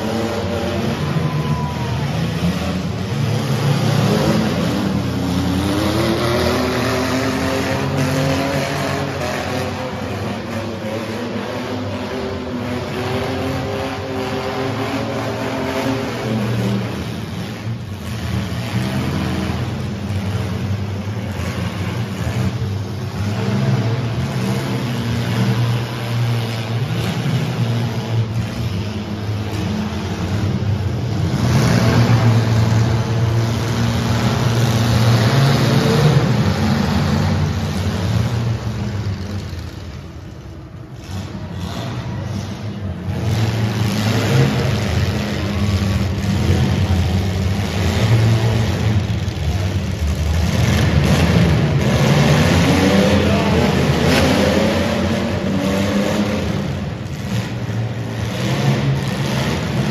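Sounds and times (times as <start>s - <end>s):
car engines revving hard: 0.0s - 59.9s.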